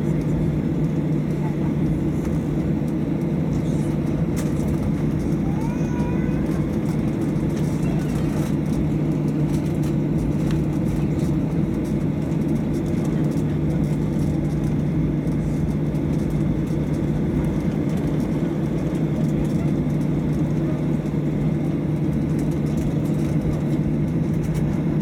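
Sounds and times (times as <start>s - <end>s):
jet engines idling: 0.0s - 25.0s.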